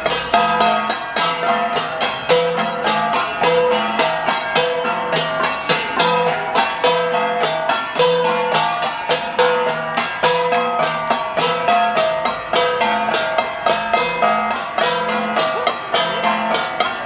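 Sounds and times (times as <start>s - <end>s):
bronze gongs beaten in rhythm: 0.0s - 17.0s.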